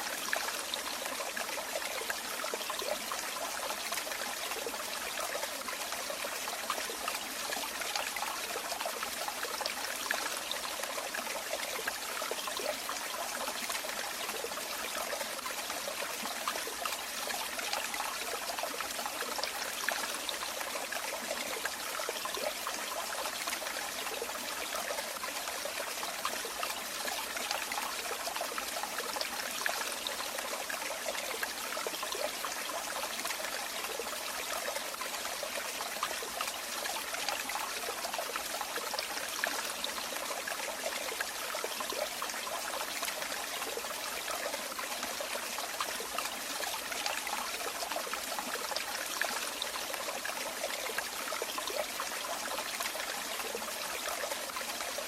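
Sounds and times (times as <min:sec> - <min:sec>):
running water trickling and splashing: 0:00.0 - 0:55.0.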